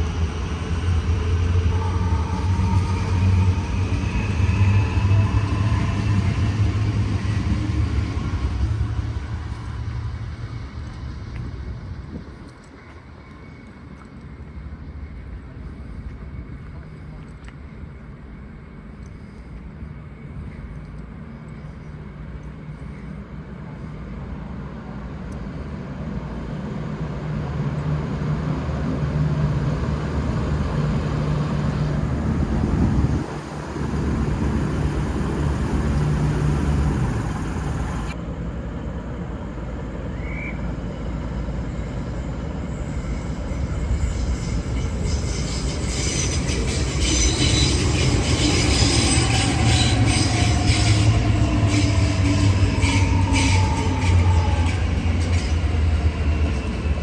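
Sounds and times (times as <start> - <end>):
metallic wheel and rail noise: 0.0 - 15.3, 26.7 - 57.0
diesel train engines: 0.0 - 57.0.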